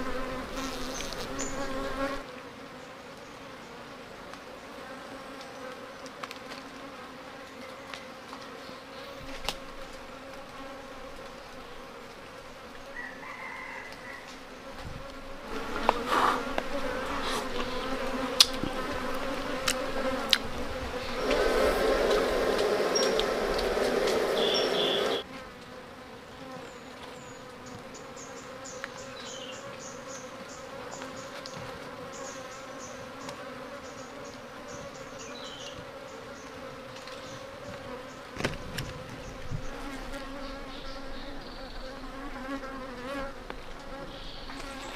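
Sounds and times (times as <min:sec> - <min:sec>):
bees buzzing: 0:00.0 - 0:44.9.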